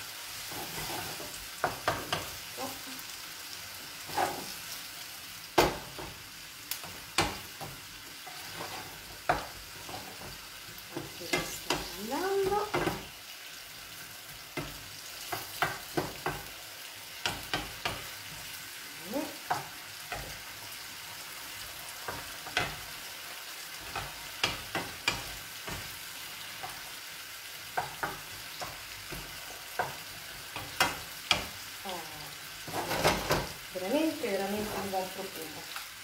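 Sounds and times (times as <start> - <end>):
vegetables sizzling in a pan: 0.0 - 36.0
wooden spoon scraping a pan: 0.2 - 2.6, 3.8 - 6.2, 6.8 - 13.2, 13.9 - 31.6, 32.6 - 35.9.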